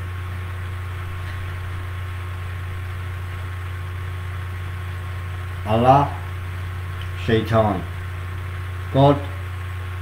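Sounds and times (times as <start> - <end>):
constant hiss: 0.0 - 10.0
low electrical hum: 0.0 - 10.0.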